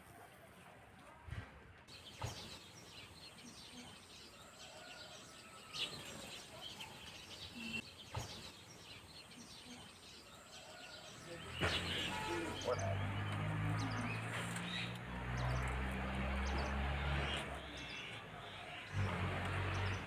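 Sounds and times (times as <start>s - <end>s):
small birds chirping: 1.9s - 20.0s.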